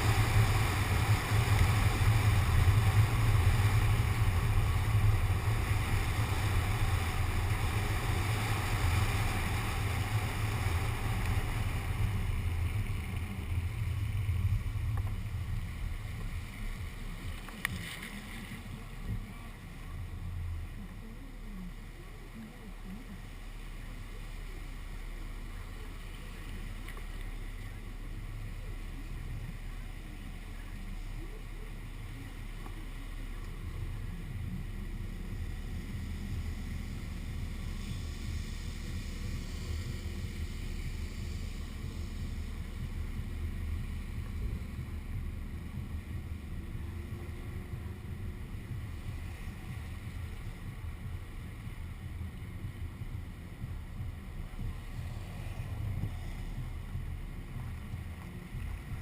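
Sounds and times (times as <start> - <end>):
car engine rumble: 0.0 - 59.0
road noise: 0.0 - 59.0
wind noise: 0.0 - 59.0.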